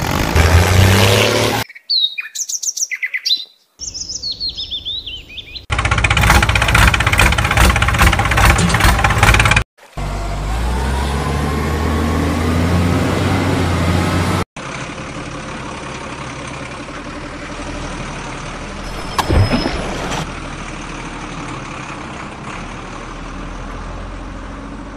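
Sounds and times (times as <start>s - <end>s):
truck engine revving: 0.0s - 1.6s, 5.7s - 24.9s
engine rumble: 4.0s - 24.9s.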